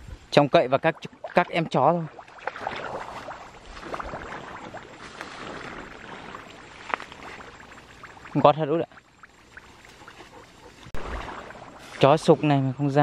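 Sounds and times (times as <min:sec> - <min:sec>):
grass and weeds rustling: 0:01.6 - 0:13.0.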